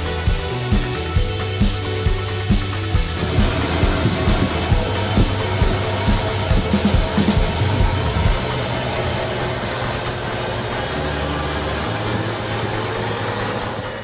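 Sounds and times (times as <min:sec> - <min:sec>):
high turbine whine: 0:00.0 - 0:14.0
turboprop engine and propeller: 0:00.0 - 0:14.0.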